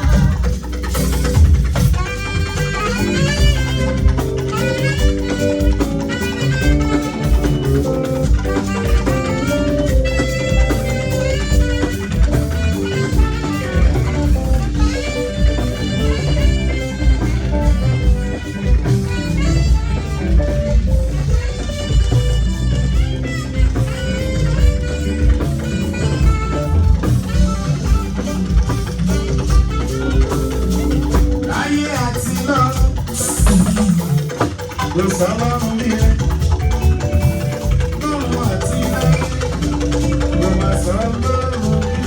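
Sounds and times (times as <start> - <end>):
bass and drums: 0.0 - 42.0
guitar melodic runs: 0.0 - 42.0.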